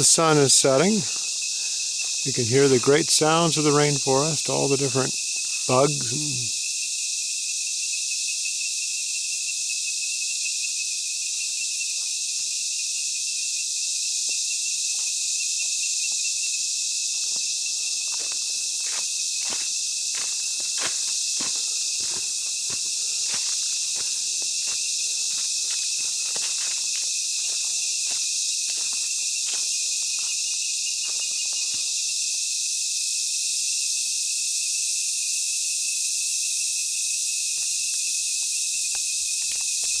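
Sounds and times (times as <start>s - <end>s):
high-pitched insect trill: 0.0s - 40.0s
insects shrill hiss: 0.0s - 40.0s.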